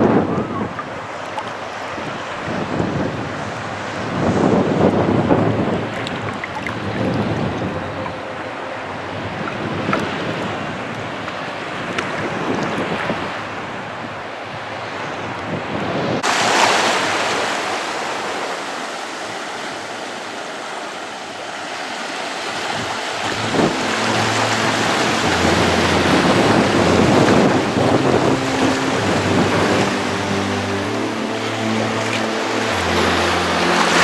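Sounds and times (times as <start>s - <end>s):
wind buffeting microphone: 0.0s - 17.6s, 22.4s - 34.0s
surf washing on a beach: 0.0s - 34.0s.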